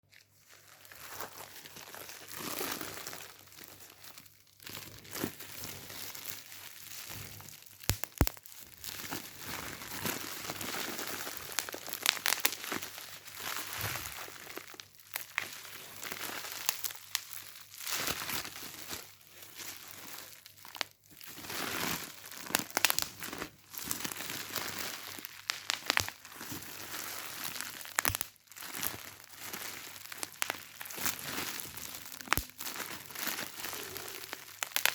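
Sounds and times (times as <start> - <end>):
wrapper crinkling and crackling: 0.0 - 34.9.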